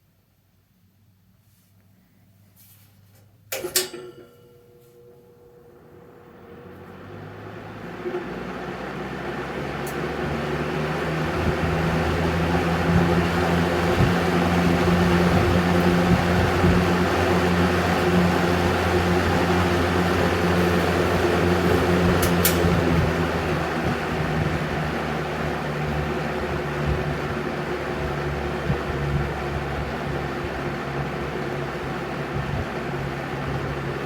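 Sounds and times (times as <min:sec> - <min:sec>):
box fan motor and air rush: 0:03.5 - 0:34.0.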